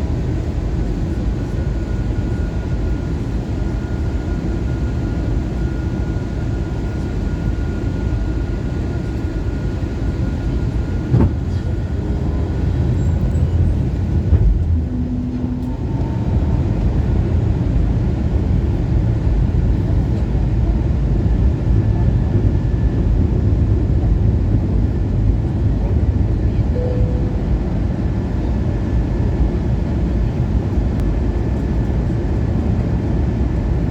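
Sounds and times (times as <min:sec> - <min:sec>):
aircraft cabin rumble: 0:00.0 - 0:33.9.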